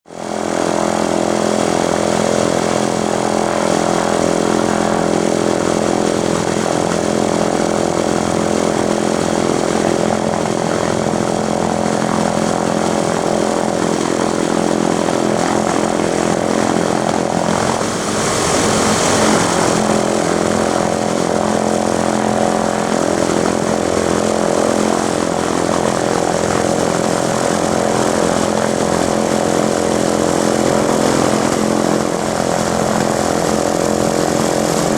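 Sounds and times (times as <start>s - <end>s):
helicopter rotor and engines: 0.0s - 34.9s.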